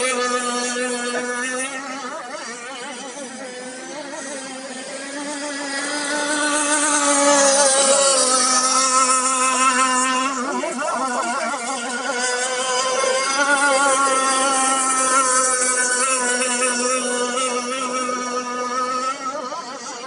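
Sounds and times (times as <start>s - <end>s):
model speedboat motor buzzing: 0.0s - 20.0s.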